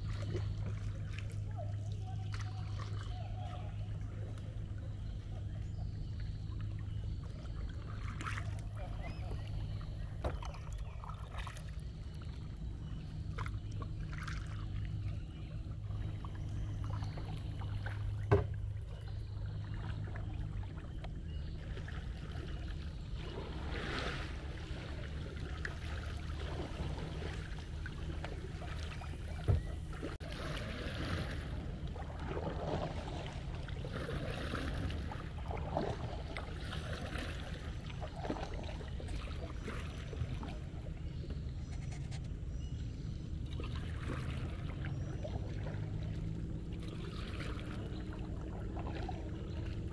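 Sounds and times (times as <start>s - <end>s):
paddle splashing water: 0.0s - 42.7s, 43.4s - 49.9s
steady low rumble: 0.0s - 49.9s.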